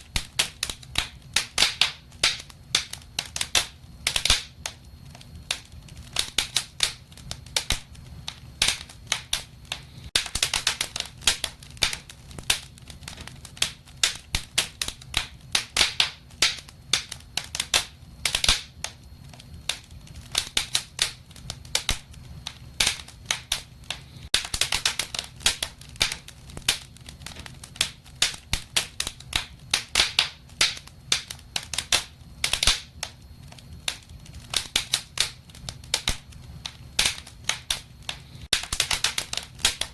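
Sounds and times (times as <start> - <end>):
faint low rumble of fire: 0.0 - 39.9
wood fire crackling: 0.0 - 39.9.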